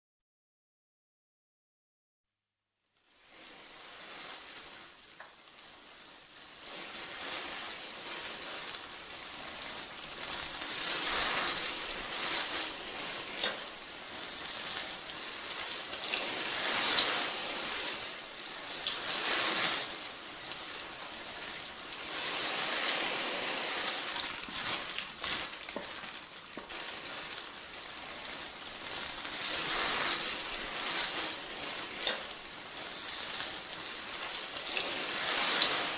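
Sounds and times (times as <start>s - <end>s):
water spray pattering on leaves: 2.9s - 35.9s.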